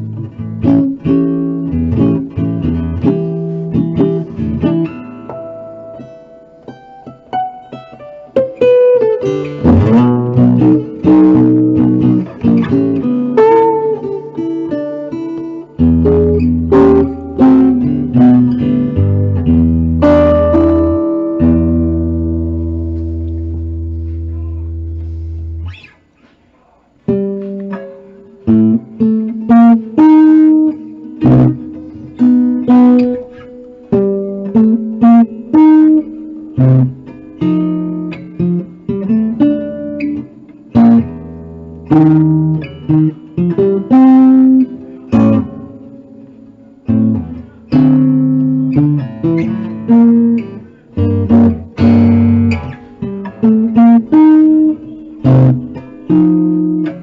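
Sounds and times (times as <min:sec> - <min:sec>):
archtop guitar chords and notes: 0:00.0 - 0:57.0.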